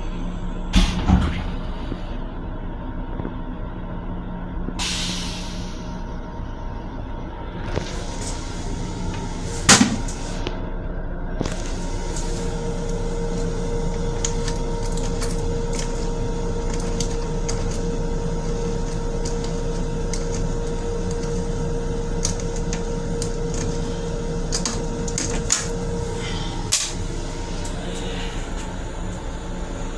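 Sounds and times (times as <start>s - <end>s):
railcar drone and hum: 0.0s - 29.9s.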